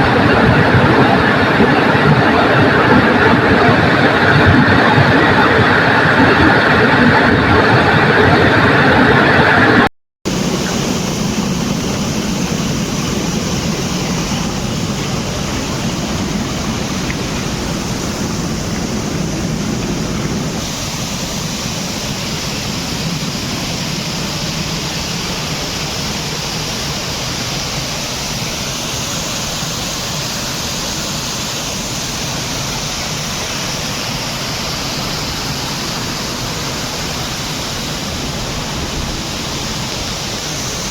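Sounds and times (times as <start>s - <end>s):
waterfall pouring: 0.0s - 40.9s.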